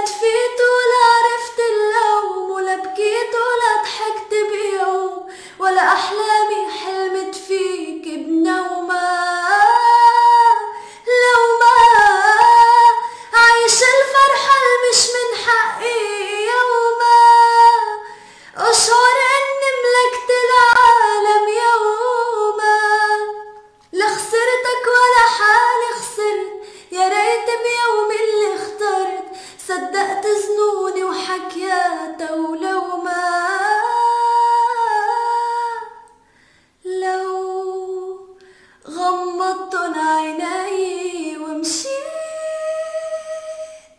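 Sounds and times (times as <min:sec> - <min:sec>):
woman singing unaccompanied: 0:00.0 - 0:36.2, 0:36.8 - 0:43.9.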